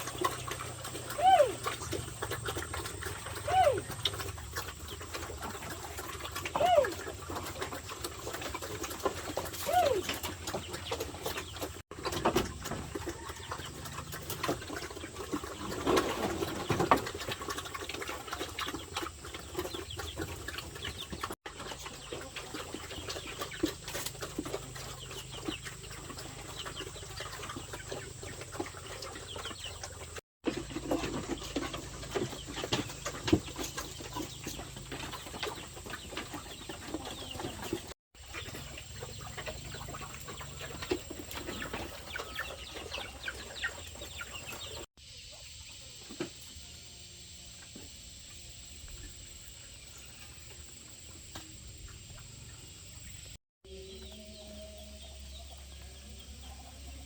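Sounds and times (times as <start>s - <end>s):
poultry clucking and calling: 0.0s - 46.8s, 47.6s - 57.0s.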